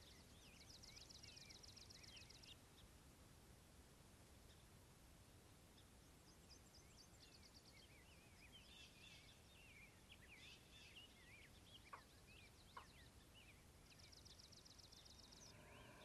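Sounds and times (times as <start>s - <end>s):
small birds chirping: 0.0s - 3.0s, 5.6s - 16.0s.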